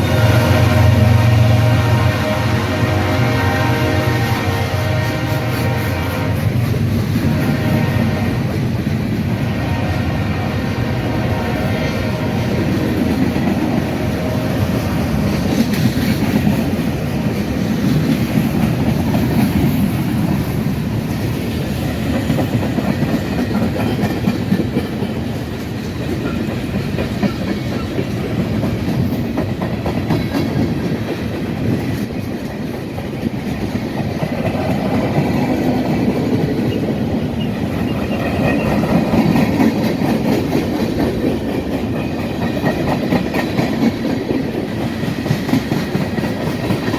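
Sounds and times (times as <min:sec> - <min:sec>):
freight train wheels clicking: 0:00.0 - 0:46.9.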